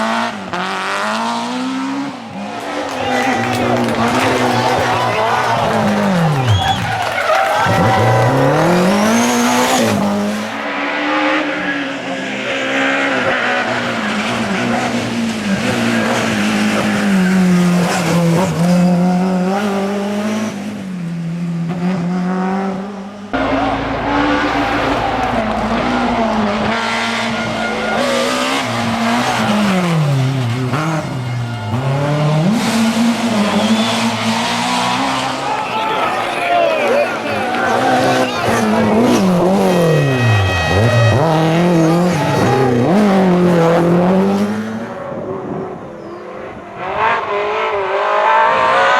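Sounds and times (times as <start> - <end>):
rally car engine revving: 0.0 - 48.9.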